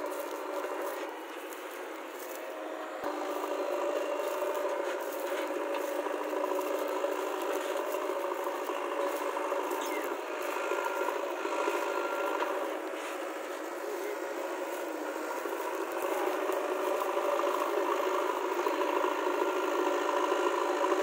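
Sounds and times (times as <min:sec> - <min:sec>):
diesel engine running under load: 0:00.0 - 0:21.0
digger rattling and scraping dirt: 0:00.0 - 0:21.0.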